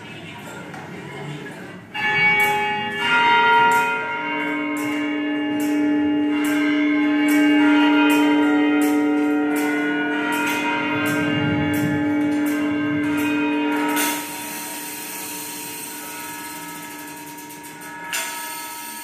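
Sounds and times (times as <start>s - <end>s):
large bells ringing: 1.5s - 19.0s.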